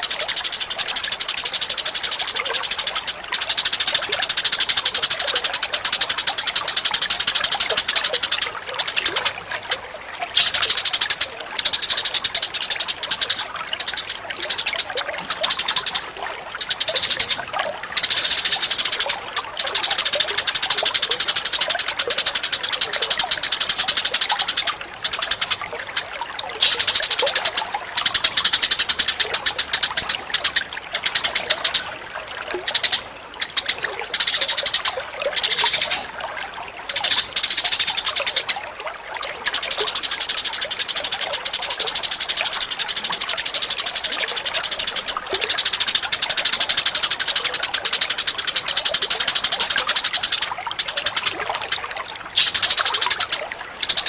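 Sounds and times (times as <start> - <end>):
fast high-pitched bird chatter: 0.0 - 31.9, 32.6 - 36.1, 36.9 - 54.0.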